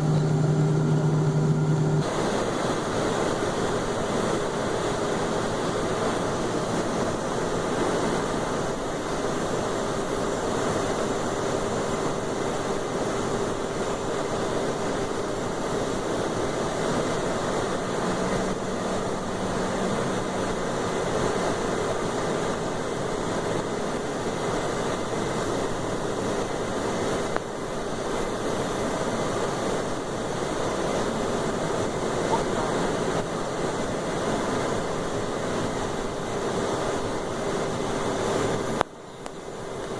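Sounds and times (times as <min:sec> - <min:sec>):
jet engines and airflow rushing: 0:00.0 - 0:39.9.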